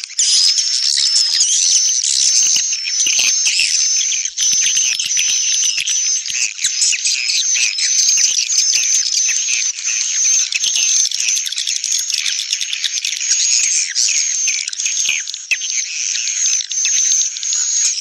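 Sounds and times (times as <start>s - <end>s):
swiftlets chirping and twittering: 0.0s - 18.0s.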